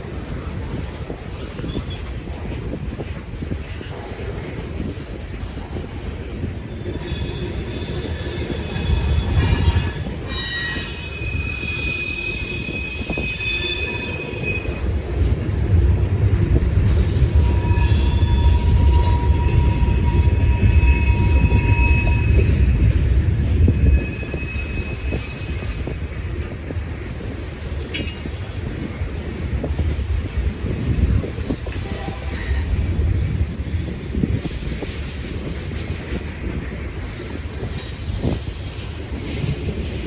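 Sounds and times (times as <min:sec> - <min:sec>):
low rumble of train cars: 0:00.0 - 0:40.0
train wheels squealing on rails: 0:00.2 - 0:40.0.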